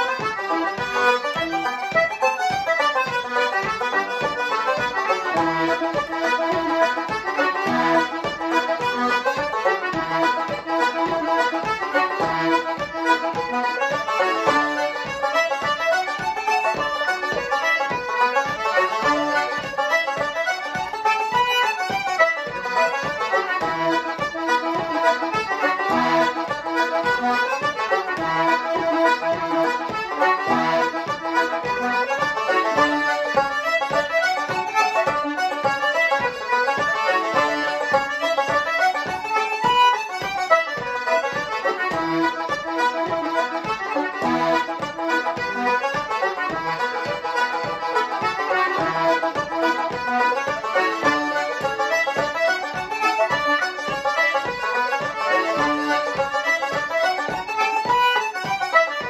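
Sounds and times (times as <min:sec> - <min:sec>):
banjo: 0:00.0 - 0:59.0
button accordion melody: 0:00.0 - 0:59.0
concertina: 0:00.0 - 0:59.0.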